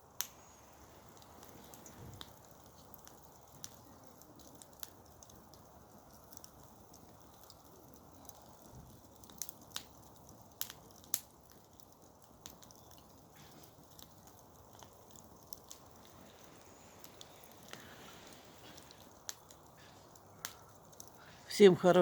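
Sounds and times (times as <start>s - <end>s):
campfire crackling and popping: 0.0s - 22.0s
faint steady hiss: 0.0s - 22.0s.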